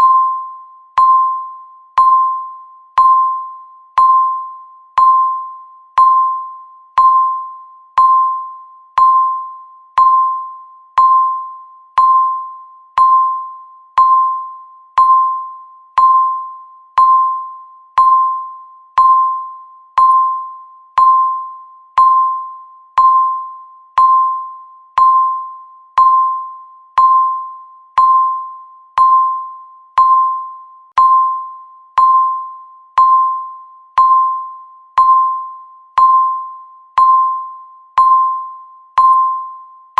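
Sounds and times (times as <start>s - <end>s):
high-pitched timer beeps: 0.0s - 39.9s.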